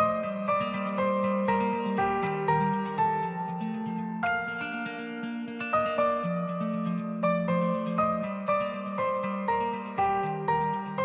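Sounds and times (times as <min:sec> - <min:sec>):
gentle plucked string music: 0:00.0 - 0:11.0.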